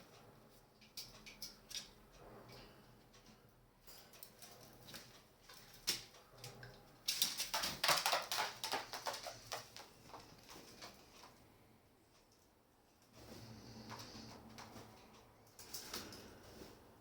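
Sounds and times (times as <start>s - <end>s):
birds pecking on hard surface: 0.8s - 11.7s, 13.2s - 16.7s.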